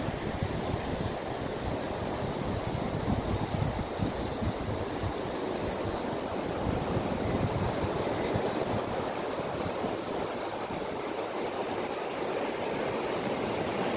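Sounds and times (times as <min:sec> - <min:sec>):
wind buffeting microphone: 0:00.0 - 0:11.3
rushing water: 0:00.0 - 0:13.9.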